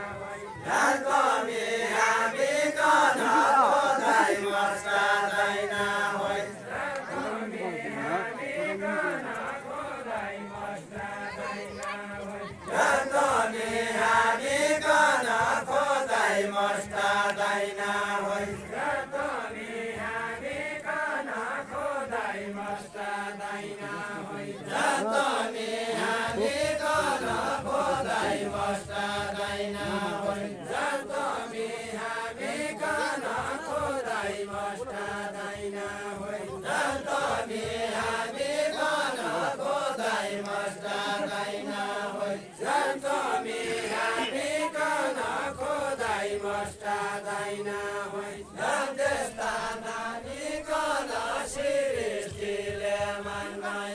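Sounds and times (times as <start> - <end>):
group of men chanting song: 0.0 - 53.9.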